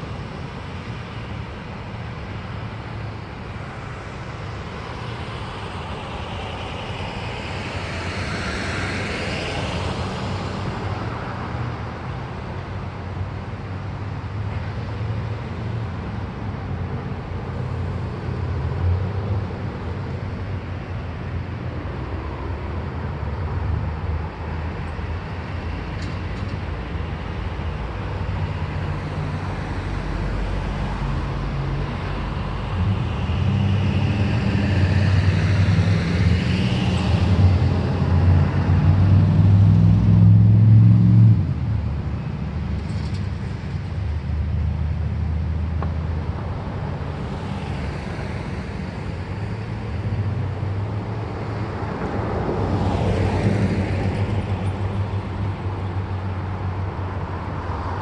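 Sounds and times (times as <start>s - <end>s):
vehicles driving past: 0.0s - 58.0s.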